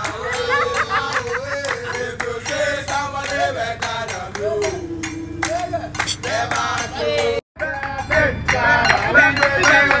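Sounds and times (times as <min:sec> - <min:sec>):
rhythmic handclaps: 0:00.0 - 0:07.0, 0:07.7 - 0:10.0
group singing in chorus: 0:00.0 - 0:10.0.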